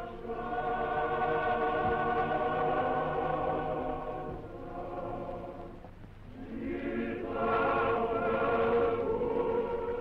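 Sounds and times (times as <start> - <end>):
choir singing held chords: 0.0 - 10.0.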